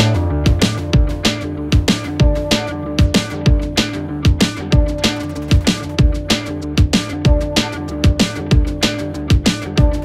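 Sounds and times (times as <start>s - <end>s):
electronic drums: 0.0s - 10.0s.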